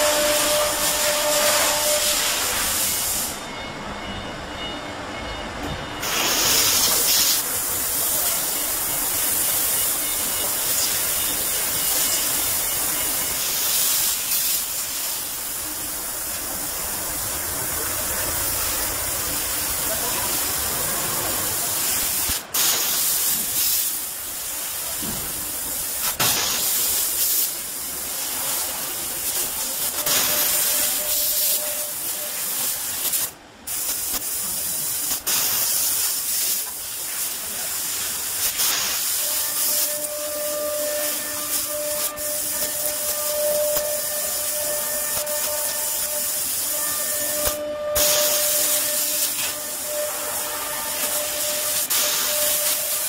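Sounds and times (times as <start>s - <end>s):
laser cutter gas jet hissing: 0.0s - 3.5s, 6.0s - 53.0s.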